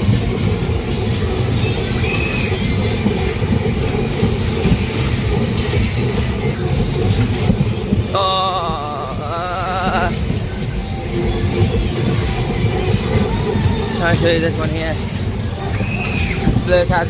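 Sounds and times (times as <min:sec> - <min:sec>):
fairground music: 0:00.0 - 0:17.0
fairground ride rumbling: 0:00.0 - 0:17.0.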